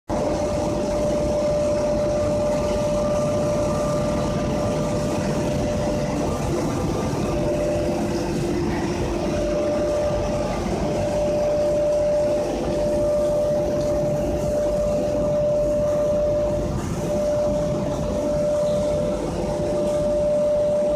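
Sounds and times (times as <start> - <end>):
lower steady tone: 0.1 - 20.9
machinery drone with whine: 0.1 - 20.9.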